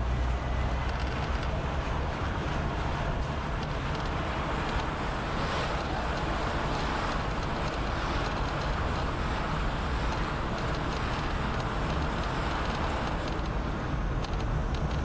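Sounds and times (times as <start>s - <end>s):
car engine: 0.0s - 15.0s
road noise: 0.0s - 15.0s.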